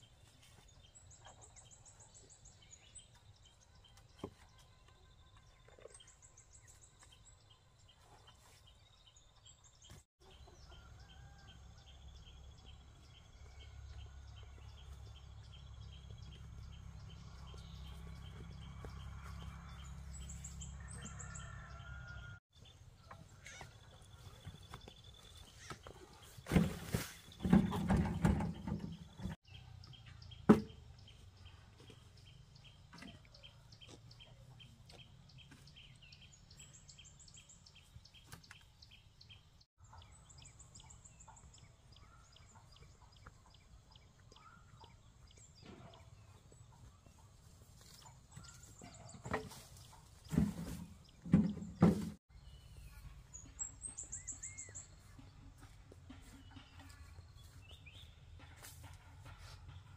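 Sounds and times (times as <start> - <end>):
birds chirping and trilling: 0.0 - 58.7.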